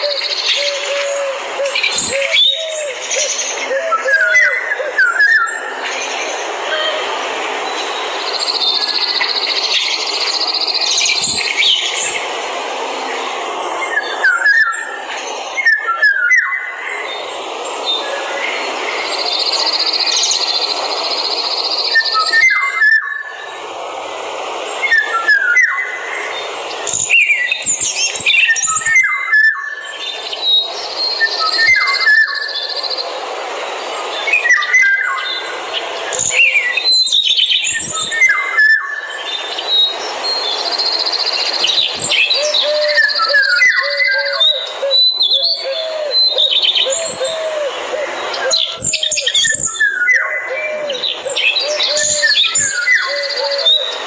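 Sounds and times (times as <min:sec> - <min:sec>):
birds chirping: 0:00.0 - 0:23.6, 0:24.7 - 0:54.0
forest background hiss: 0:00.0 - 0:54.0.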